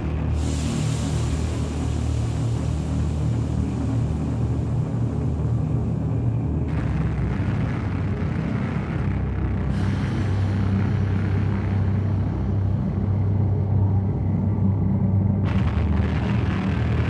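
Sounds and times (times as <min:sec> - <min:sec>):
dark ambient drone music: 0:00.0 - 0:17.0.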